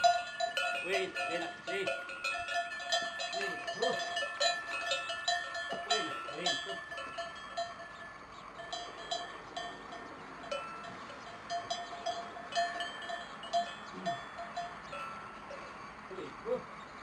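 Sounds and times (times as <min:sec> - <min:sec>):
cowbells clanking: 0:00.0 - 0:16.8.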